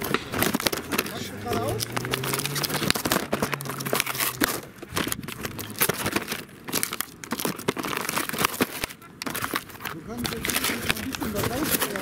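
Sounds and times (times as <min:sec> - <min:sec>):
paper wrapping crinkling and tearing: 0:00.0 - 0:12.0.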